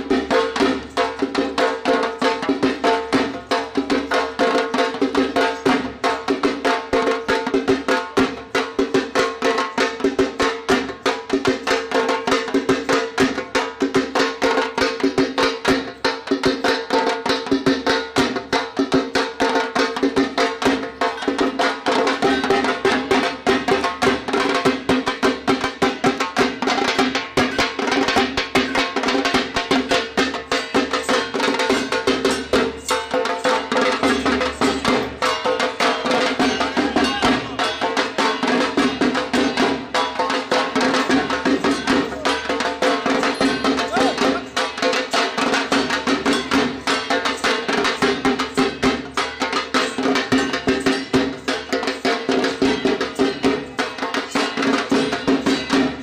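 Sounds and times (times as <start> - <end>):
barrel drums beaten fast: 0.0 - 56.0.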